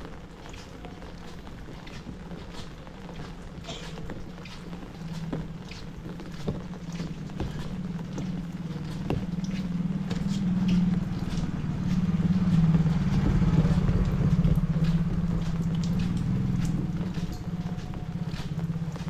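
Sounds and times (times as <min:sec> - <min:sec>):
rain pattering on umbrella: 0:00.0 - 0:19.0
vehicle engine droning: 0:02.2 - 0:19.0.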